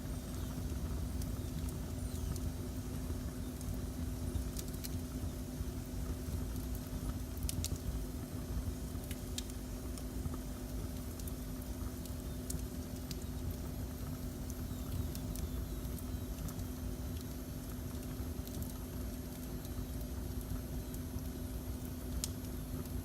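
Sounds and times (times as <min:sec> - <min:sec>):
faint hum: 0:00.0 - 0:23.0
wood fire crackling: 0:00.0 - 0:23.0.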